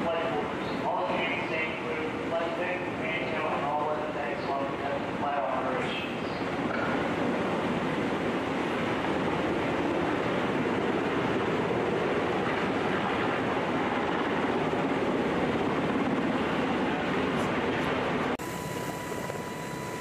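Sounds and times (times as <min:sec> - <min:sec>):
helicopter rotor and turbine noise: 0:00.0 - 0:20.0.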